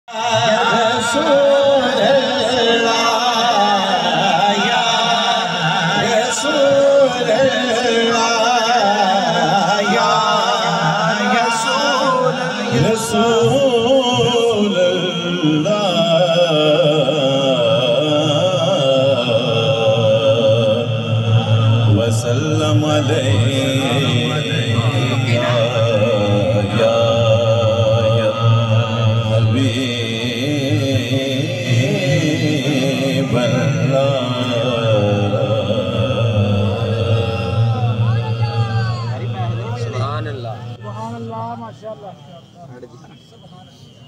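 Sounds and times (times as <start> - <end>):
man singing into microphone: 0.0 - 40.5.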